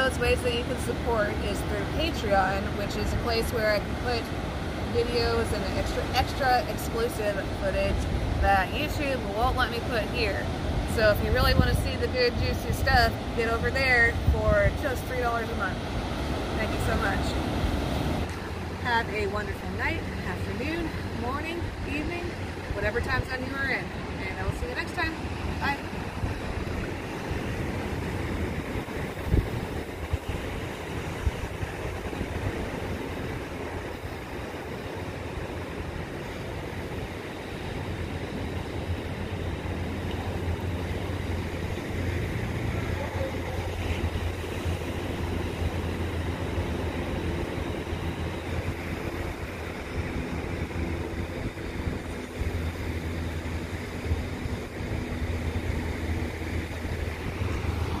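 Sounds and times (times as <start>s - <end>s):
ocean surf breaking: 0.0s - 58.0s
wind rumble on microphone: 0.0s - 58.0s.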